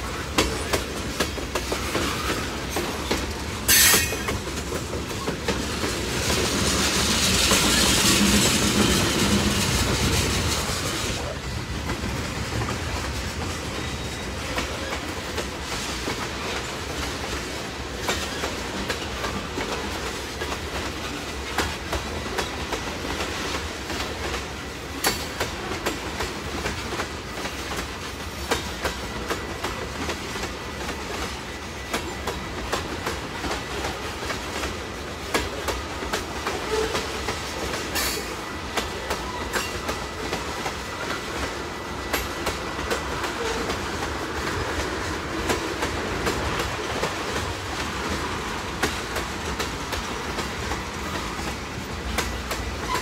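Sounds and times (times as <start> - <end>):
freight train rumbling: 0.0 - 53.0
wheels clicking over rail joints: 0.1 - 53.0.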